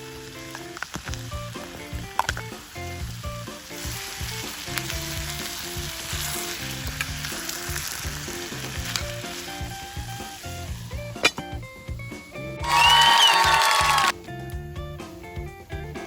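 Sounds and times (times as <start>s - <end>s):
campfire crackling and popping: 0.0s - 11.6s, 12.6s - 14.6s
soft background music: 0.0s - 16.0s.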